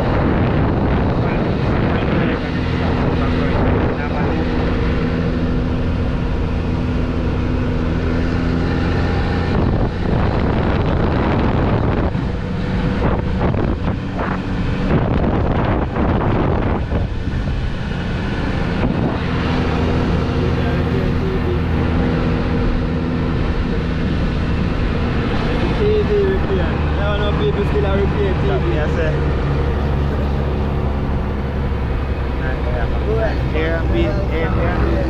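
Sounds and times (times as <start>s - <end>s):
vehicle engine running: 0.0s - 35.0s
wind buffeting microphone: 0.0s - 35.0s.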